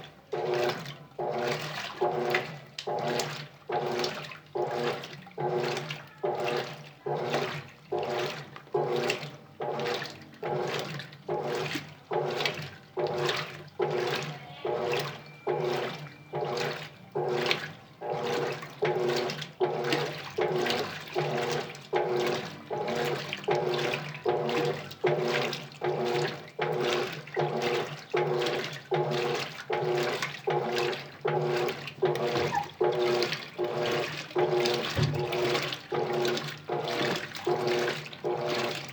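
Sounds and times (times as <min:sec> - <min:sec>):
water sloshing in washing machine: 0:00.0 - 0:38.9.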